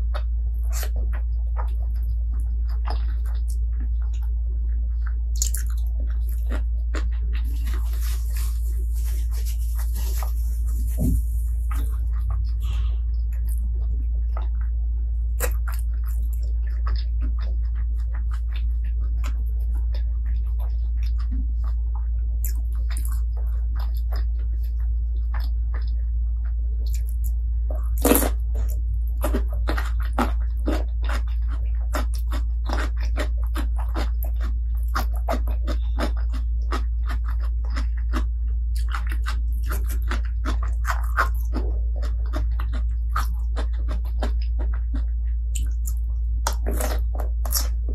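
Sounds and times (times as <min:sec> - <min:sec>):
chewing crunches: 0:00.0 - 0:47.9
low hum: 0:00.0 - 0:47.9.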